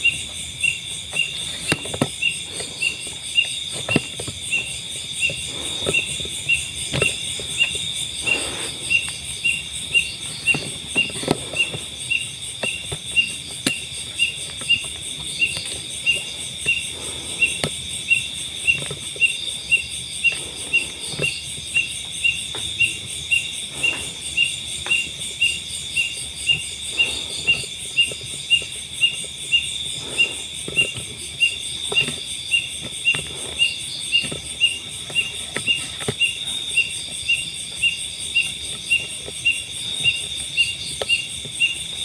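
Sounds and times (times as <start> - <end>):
cricket chirping: 0.0 - 42.0
insects trilling: 0.0 - 42.0.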